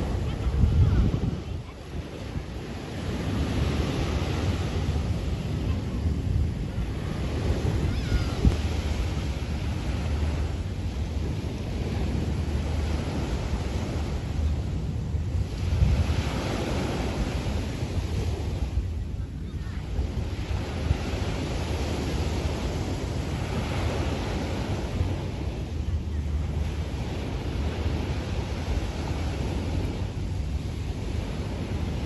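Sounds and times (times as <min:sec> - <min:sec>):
waves washing onto beach: 0:00.0 - 0:32.0
wind buffeting microphone: 0:00.0 - 0:32.0.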